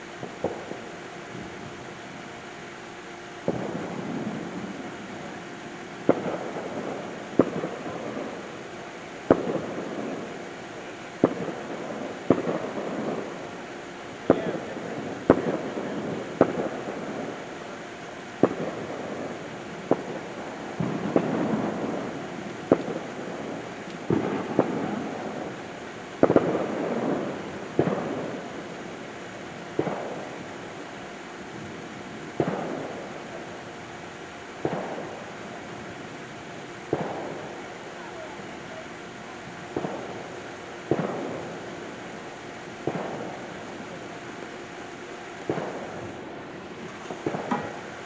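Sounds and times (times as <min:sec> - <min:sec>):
fireworks bangs: 0:00.0 - 0:48.0
rumbling crackle: 0:00.0 - 0:48.0.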